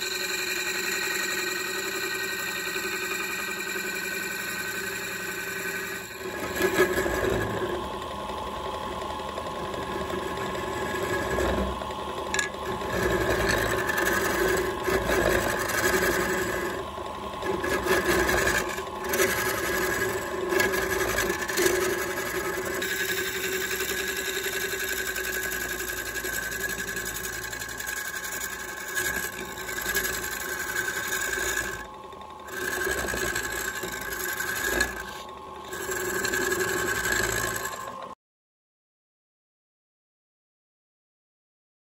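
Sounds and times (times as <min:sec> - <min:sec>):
chisel scraping spinning wood: 0:00.0 - 0:38.2
wood lathe motor humming: 0:00.0 - 0:38.2.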